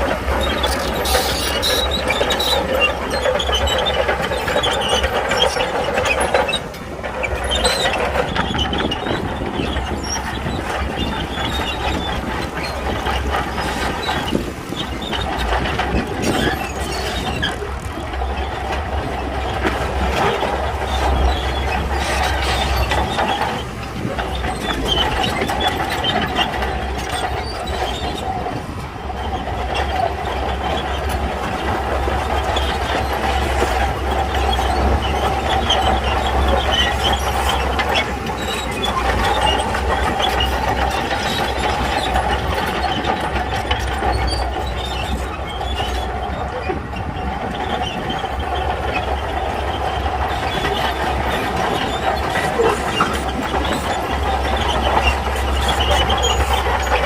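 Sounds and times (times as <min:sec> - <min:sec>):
diesel engine running: 0:00.0 - 0:57.0
steel tracks clanking: 0:00.0 - 0:57.0.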